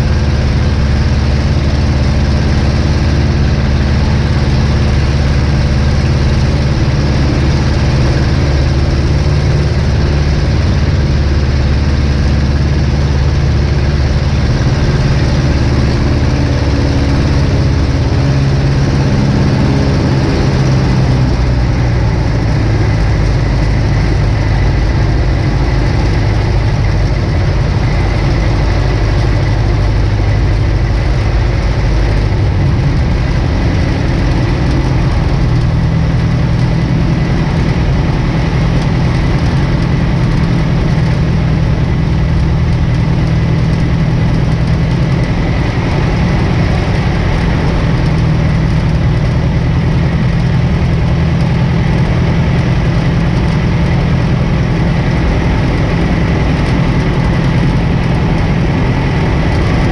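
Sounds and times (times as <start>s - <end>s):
airplane engine drone: 0.0s - 59.9s.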